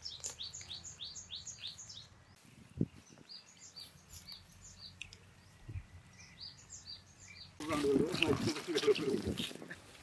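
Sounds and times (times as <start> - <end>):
bird chirping: 0.0 - 8.3.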